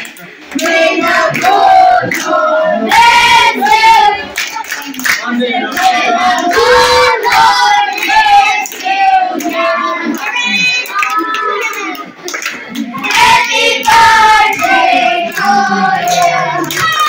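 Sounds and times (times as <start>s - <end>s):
women and children singing: 0.2s - 17.0s.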